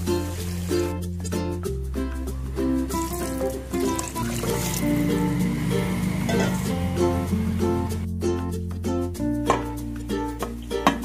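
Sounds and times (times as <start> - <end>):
steady bass line: 0.0 - 10.7
plucked-string tune: 0.0 - 11.0.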